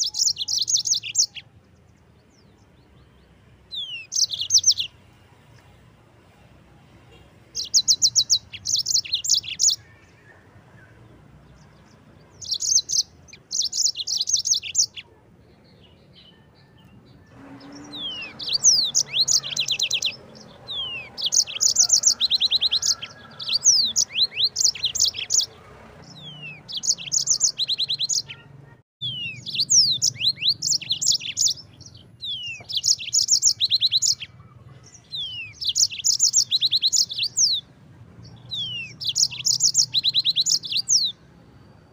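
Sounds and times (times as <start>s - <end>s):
canary singing trilled phrases: 0.0s - 1.8s, 2.4s - 5.0s, 7.2s - 41.3s.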